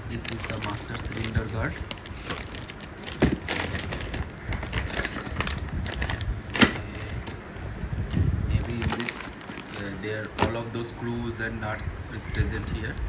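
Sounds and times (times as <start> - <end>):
packaging crinkling: 0.0 - 10.9.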